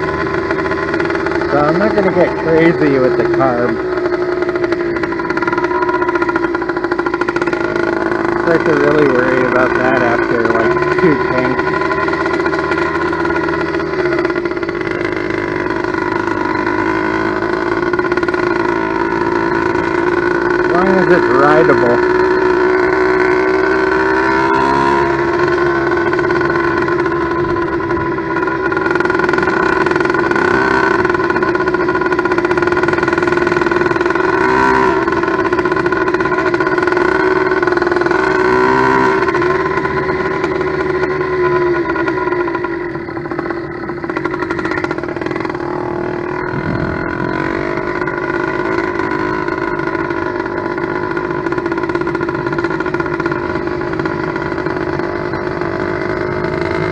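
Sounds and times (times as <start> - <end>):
two-stroke engine running: 0.0 - 56.9.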